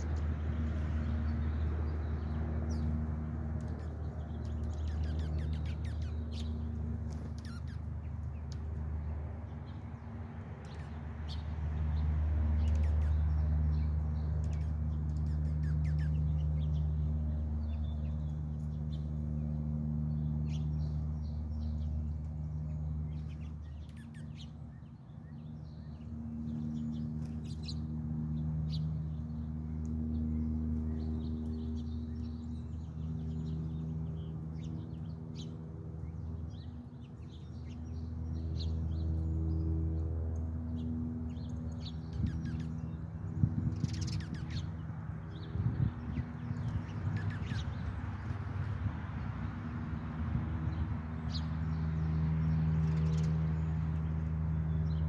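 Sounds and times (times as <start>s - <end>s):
low droning hum: 0.0s - 55.0s
songbirds chirping: 0.0s - 55.0s.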